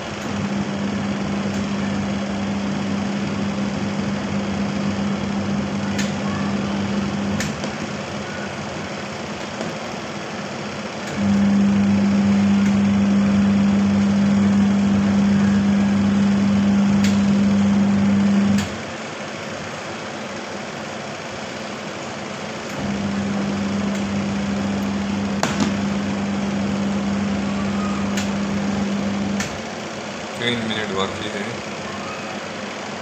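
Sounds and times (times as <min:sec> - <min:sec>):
washing machine motor humming: 0:00.0 - 0:33.0.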